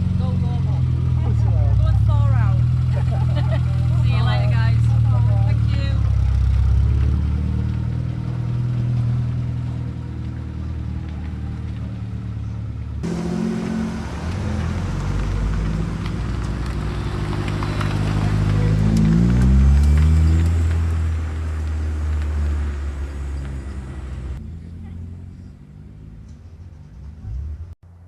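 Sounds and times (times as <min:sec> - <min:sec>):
car engine running: 0:00.0 - 0:27.7.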